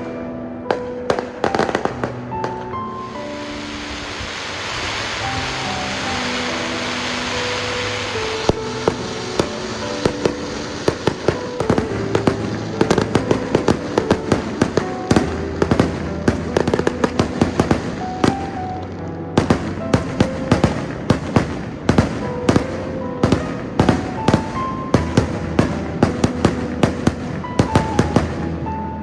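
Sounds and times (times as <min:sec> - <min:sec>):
fireworks bangs: 0:00.0 - 0:28.8
fireworks crackle: 0:00.0 - 0:28.8.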